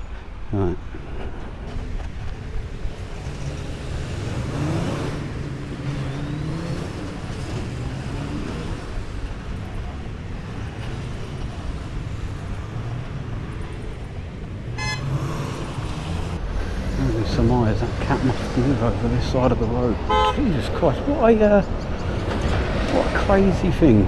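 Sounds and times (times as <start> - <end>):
vehicles passing: 0.0 - 24.0.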